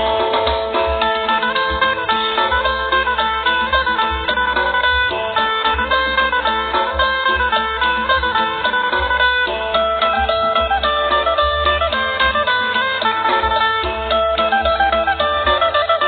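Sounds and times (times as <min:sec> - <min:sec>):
plucked lute fast melody: 0:00.0 - 0:16.0
steady low beat: 0:00.0 - 0:16.0.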